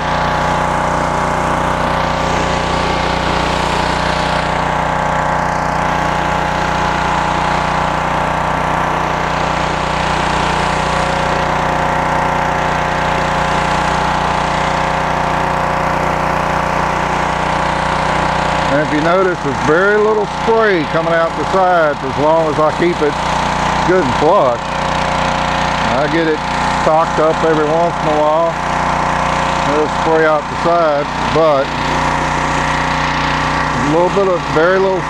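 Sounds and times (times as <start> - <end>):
pressure washer engine running: 0.0 - 35.0.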